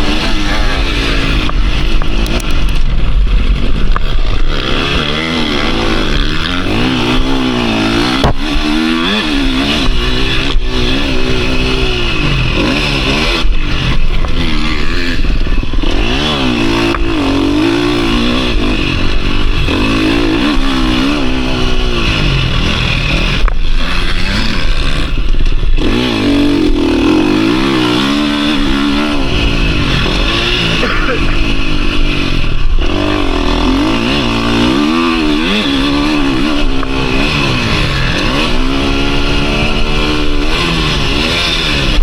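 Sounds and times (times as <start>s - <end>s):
motocross engine revving: 0.0s - 42.0s.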